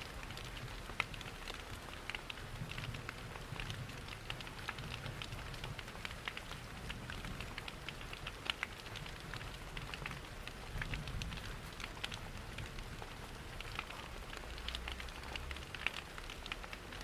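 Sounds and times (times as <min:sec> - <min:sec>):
raindrops ticking: 0:00.0 - 0:17.0
steady rain: 0:00.0 - 0:17.0
fire crackling: 0:00.1 - 0:17.0.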